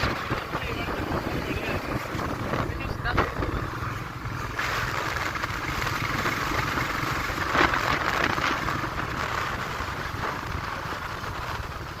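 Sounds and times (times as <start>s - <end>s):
road and wind noise: 0.0s - 12.0s
scooter engine hum: 0.0s - 12.0s.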